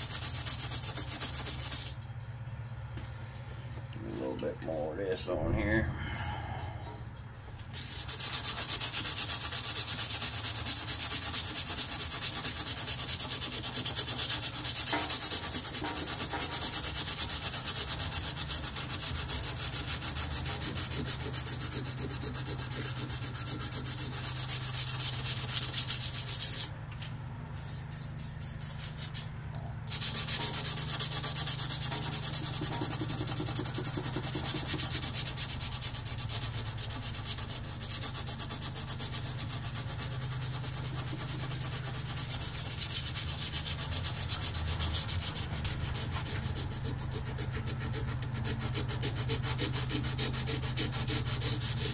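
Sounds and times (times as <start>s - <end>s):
sandpaper scratching steel blade: 0.0s - 2.0s, 7.7s - 26.7s, 27.6s - 29.3s, 29.9s - 51.9s.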